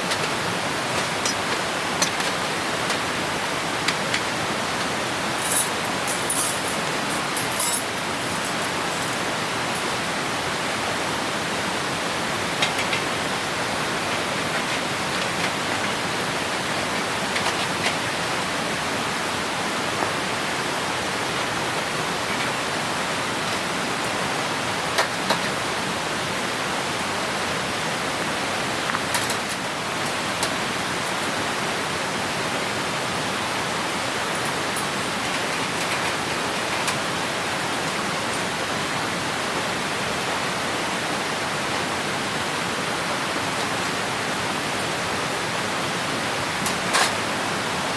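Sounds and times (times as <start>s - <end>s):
stream rushing: 0.0s - 47.9s.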